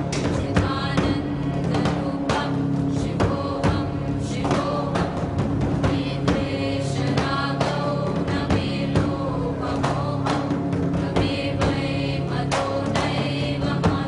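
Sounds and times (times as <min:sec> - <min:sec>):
drum strokes: 0:00.0 - 0:14.0
held drone: 0:00.0 - 0:14.0
voices chanting: 0:00.0 - 0:14.0.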